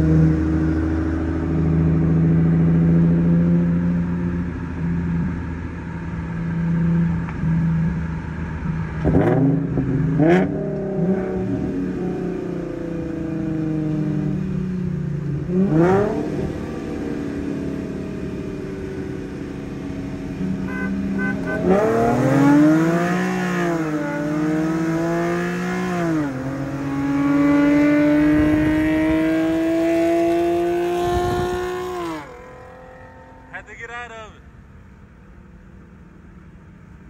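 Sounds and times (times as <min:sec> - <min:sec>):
car engine accelerating hard: 0:00.0 - 0:33.5.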